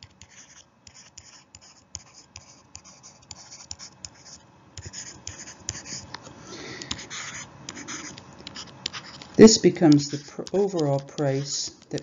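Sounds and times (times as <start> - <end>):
pen scratching on paper: 0.0 - 6.1, 6.9 - 12.0.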